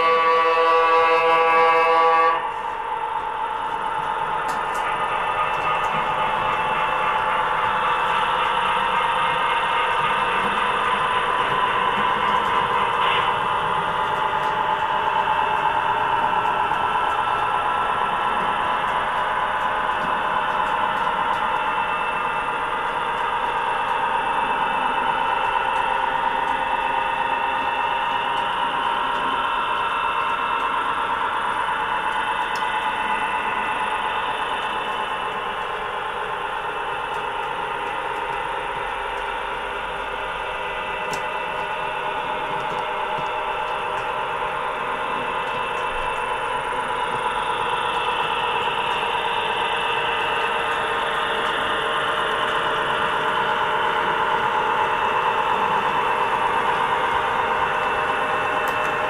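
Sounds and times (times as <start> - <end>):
diesel engine drone: 0.0 - 59.0
model train rolling on track: 0.0 - 59.0.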